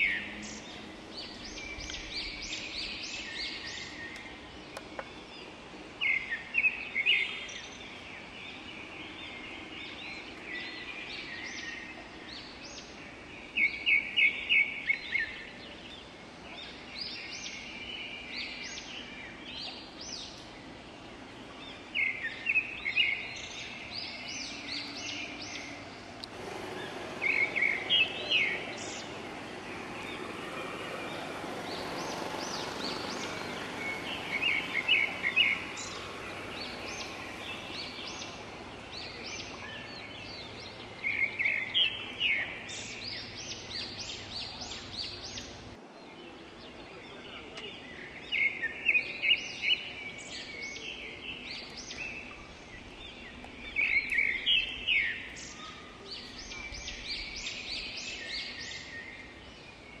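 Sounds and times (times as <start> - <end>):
birds chirping: 0.0 - 60.0
forest ambience hiss: 0.0 - 60.0.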